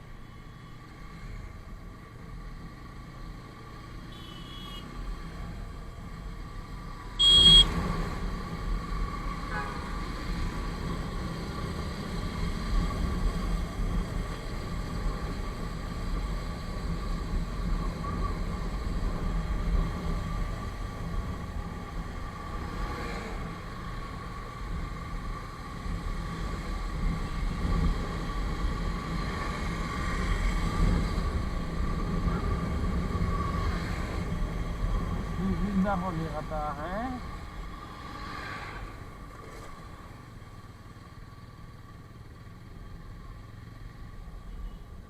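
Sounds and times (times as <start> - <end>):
road noise: 0.0 - 45.0.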